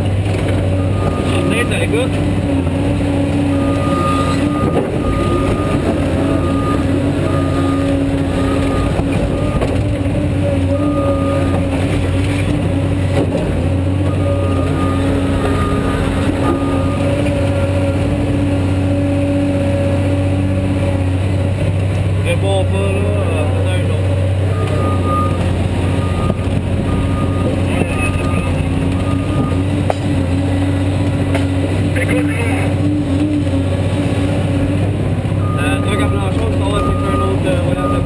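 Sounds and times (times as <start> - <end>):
excavator diesel engine: 0.0 - 38.0.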